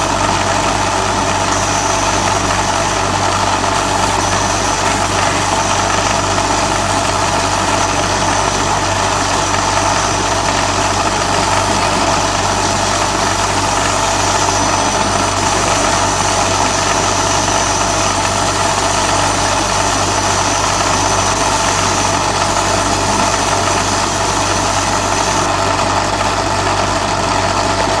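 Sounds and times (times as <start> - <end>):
thin high whine: 0.0 - 25.5
laser engraving machine humming: 0.0 - 25.7.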